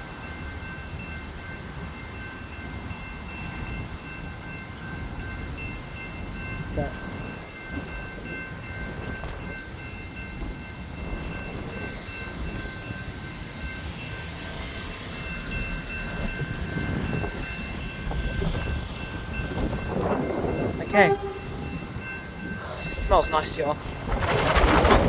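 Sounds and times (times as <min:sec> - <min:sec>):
crossing warning bells ringing: 0:00.0 - 0:25.0
electric train rumbling: 0:00.0 - 0:25.0.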